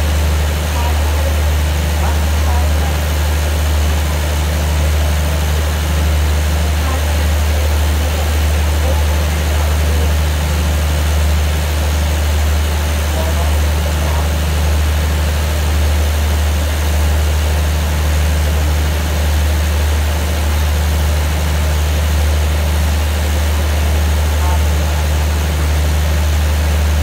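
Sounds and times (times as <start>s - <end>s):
diesel train idling hum: 0.0s - 27.0s.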